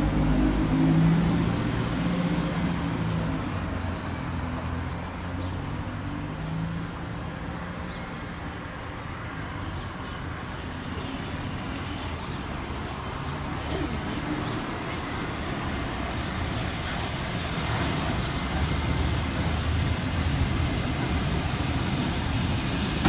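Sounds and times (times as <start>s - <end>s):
traffic hum: 0.0s - 23.0s.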